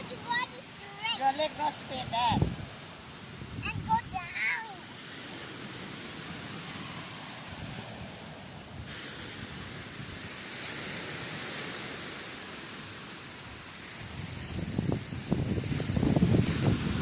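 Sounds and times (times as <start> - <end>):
sea surf hissing: 0.0 - 17.0
wind: 0.0 - 17.0.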